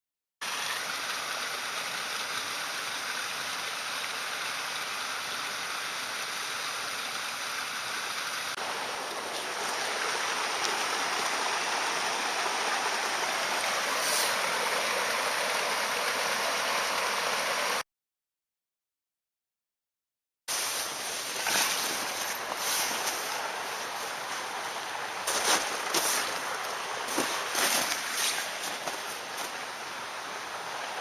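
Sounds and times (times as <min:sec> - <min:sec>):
stream water flowing: 0:00.4 - 0:17.8, 0:20.5 - 0:31.0.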